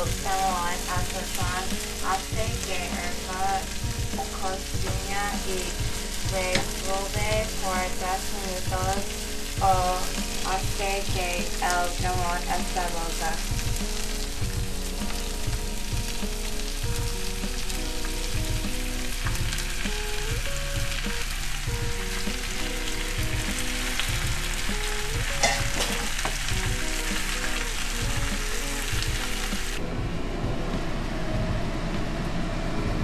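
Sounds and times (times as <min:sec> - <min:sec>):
food sizzling in a frying pan: 0:00.0 - 0:29.8.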